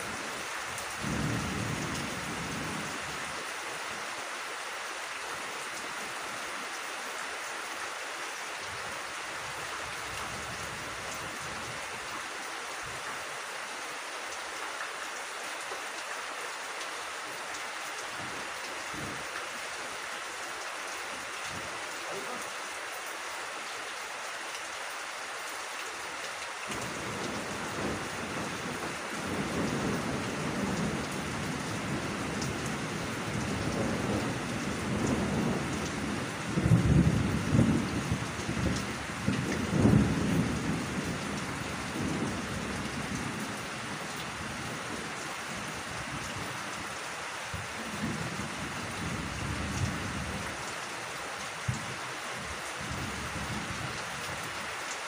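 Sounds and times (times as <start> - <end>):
rain on vegetation: 0.0 - 55.0.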